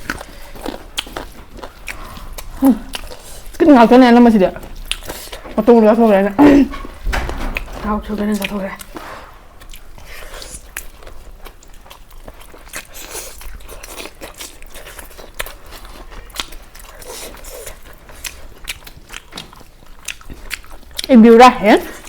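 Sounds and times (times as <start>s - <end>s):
person chewing crunchy food: 0.0s - 3.8s, 4.6s - 5.6s, 7.6s - 21.2s.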